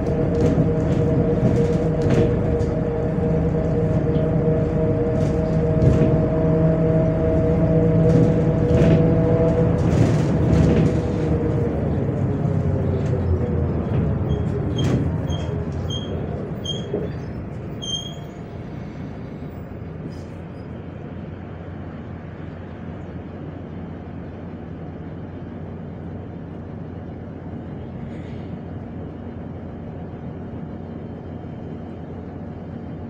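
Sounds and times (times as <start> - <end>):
bus engine rumble: 0.0 - 33.0.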